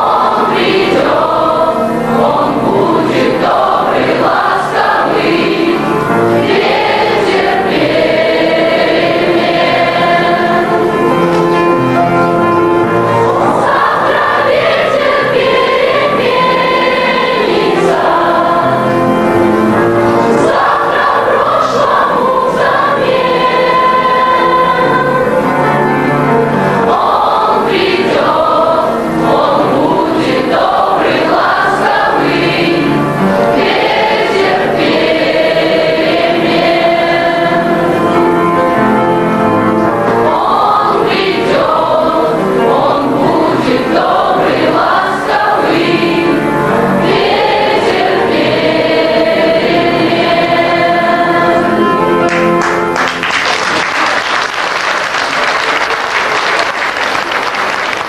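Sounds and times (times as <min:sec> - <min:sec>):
choir singing: 0:00.0 - 0:53.0.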